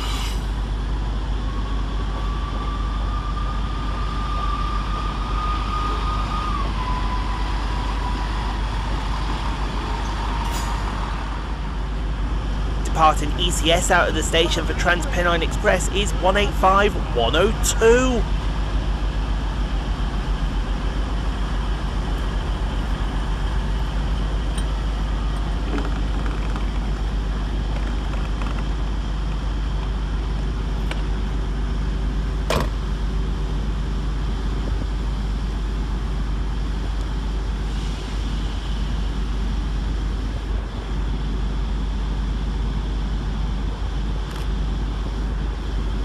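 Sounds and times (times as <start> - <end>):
diesel train engines droning: 0.0 - 46.0.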